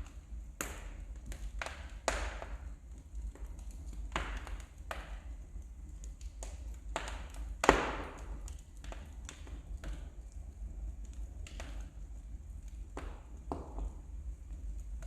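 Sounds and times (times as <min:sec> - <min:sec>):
fire popping and snapping: 0:00.0 - 0:15.0
wood fire crackling: 0:00.0 - 0:15.0.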